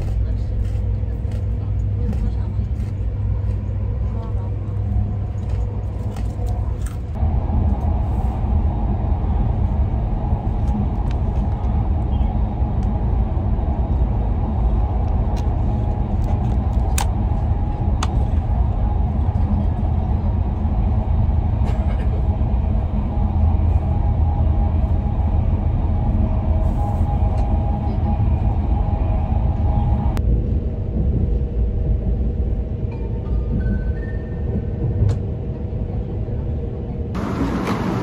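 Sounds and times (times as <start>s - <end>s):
train rumbling: 0.0s - 38.0s.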